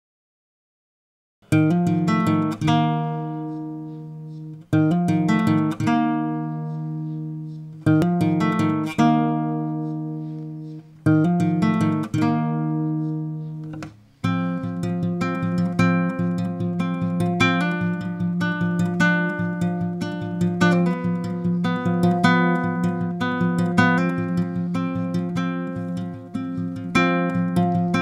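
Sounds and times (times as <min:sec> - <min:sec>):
acoustic guitar strumming chords: 0:01.5 - 0:28.0.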